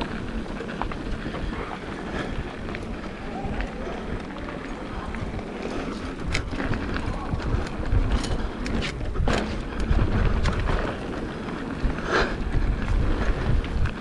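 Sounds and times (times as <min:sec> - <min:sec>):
bike rattling clicks and knocks: 0:00.0 - 0:14.0
wind rumbling on microphone: 0:00.0 - 0:14.0.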